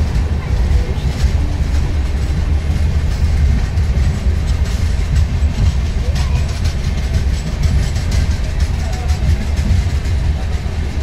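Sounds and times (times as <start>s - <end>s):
train coaches rumbling: 0.0s - 11.0s.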